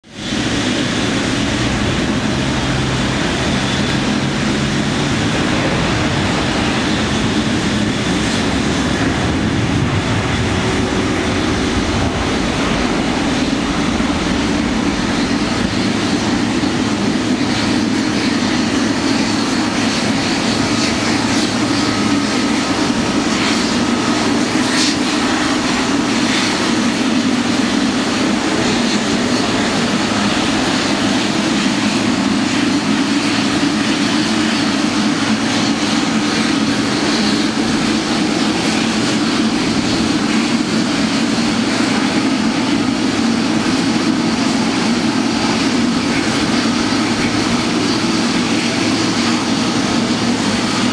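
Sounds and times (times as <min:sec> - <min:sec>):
jet engines idling: 0:00.0 - 0:50.9.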